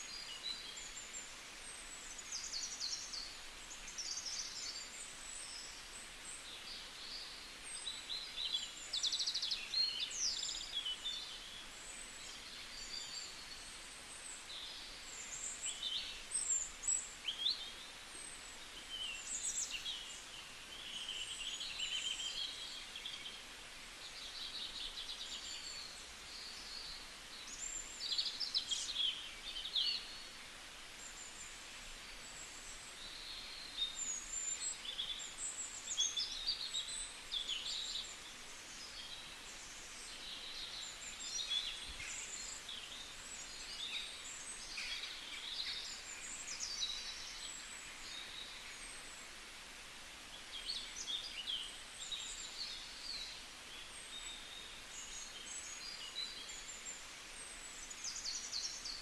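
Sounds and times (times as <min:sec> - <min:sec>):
faint steady hiss: 0:00.0 - 0:59.0
small birds chirping: 0:00.0 - 0:59.0.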